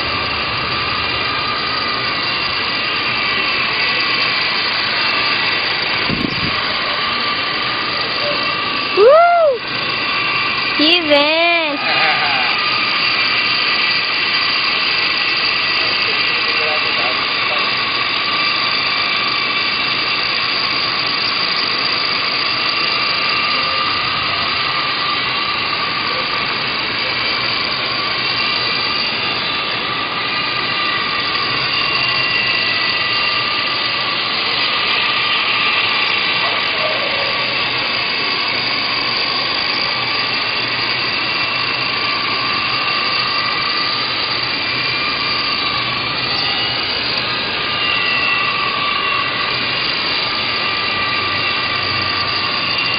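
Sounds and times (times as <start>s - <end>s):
model helicopter motor whine: 0.0s - 52.9s.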